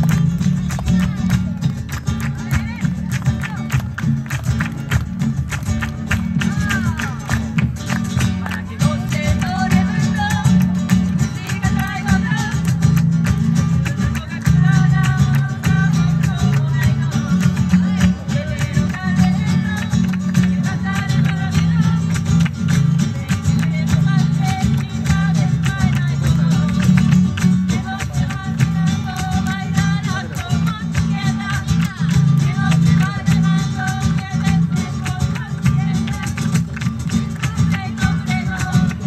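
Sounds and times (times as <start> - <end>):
acoustic guitars strumming: 0.0 - 39.0.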